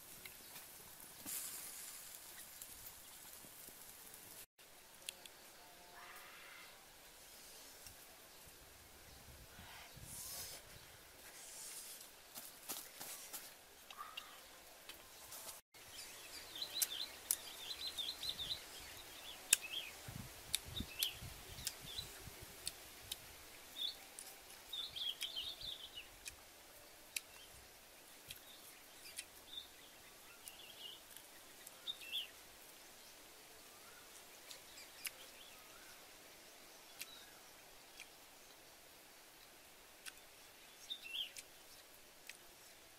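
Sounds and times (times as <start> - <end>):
faint outdoor hiss: 0.0 - 42.9
small birds chirping: 0.0 - 42.9.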